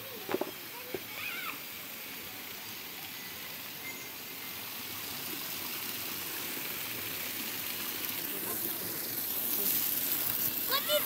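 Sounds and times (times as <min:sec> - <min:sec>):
water pouring onto stone: 0:00.0 - 0:11.0.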